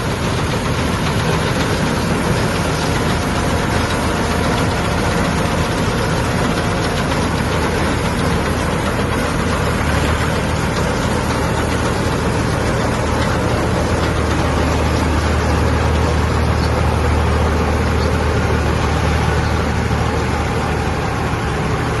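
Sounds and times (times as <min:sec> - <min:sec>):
combine harvester running: 0:00.0 - 0:22.0.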